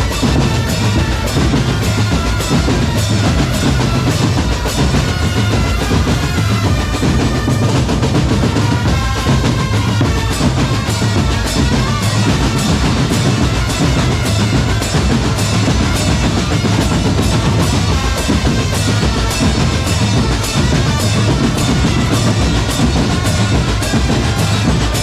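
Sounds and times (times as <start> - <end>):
bass drums beating: 0.0 - 25.0
snare drums beating: 0.0 - 25.0.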